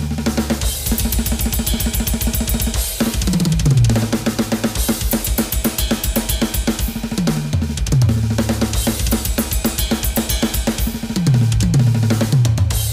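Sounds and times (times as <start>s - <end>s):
cymbals: 0.0s - 12.9s.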